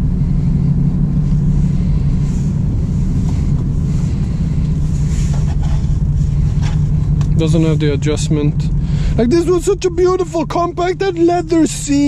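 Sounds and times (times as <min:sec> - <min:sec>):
car engine droning in cabin: 0:00.0 - 0:12.0
road noise: 0:00.0 - 0:12.0.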